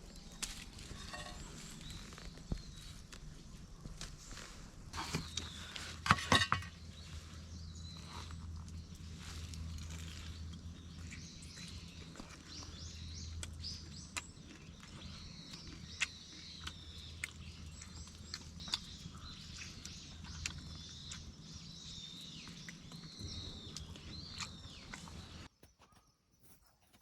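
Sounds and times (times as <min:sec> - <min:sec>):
small birds chirping: 0:00.0 - 0:26.6.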